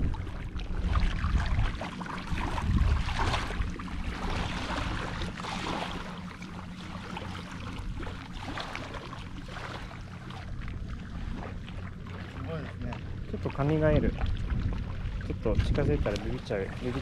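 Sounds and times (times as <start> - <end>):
wind rumble on microphone: 0.0 - 8.8, 9.4 - 17.0
small waves washing: 0.0 - 17.0.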